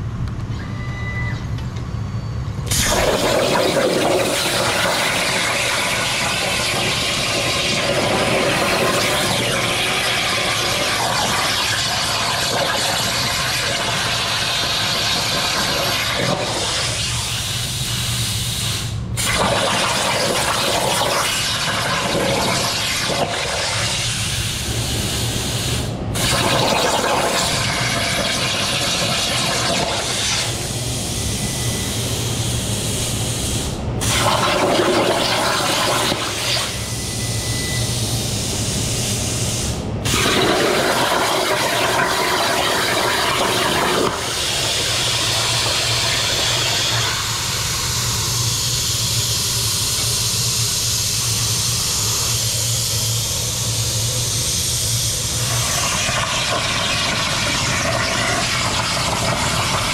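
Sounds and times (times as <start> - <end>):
plasma cutter hissing: 2.7 - 59.9.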